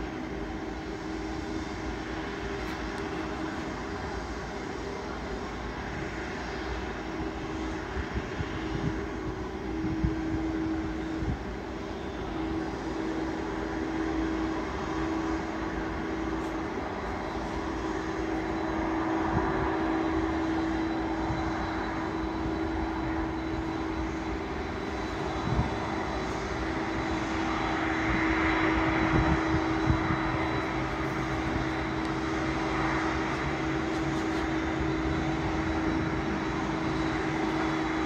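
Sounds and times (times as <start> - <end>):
jet engines droning: 0.0 - 38.0.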